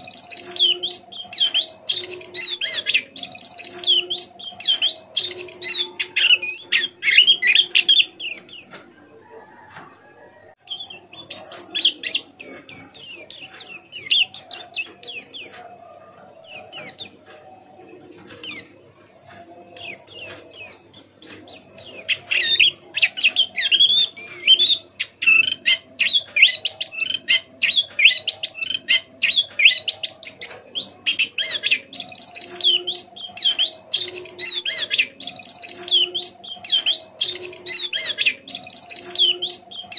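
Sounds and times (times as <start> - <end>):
bird twittering high chirps: 0.0 - 8.8, 10.6 - 17.4, 18.4 - 39.9.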